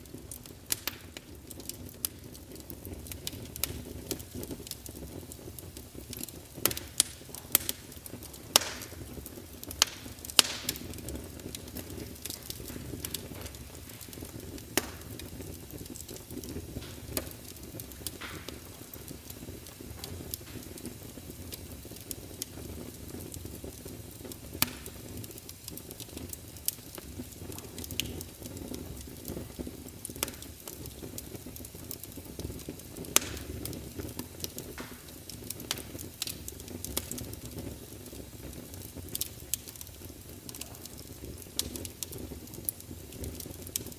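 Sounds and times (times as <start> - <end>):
low rumble of flame: 0.0 - 43.9
wood fire crackling and popping: 0.0 - 43.9.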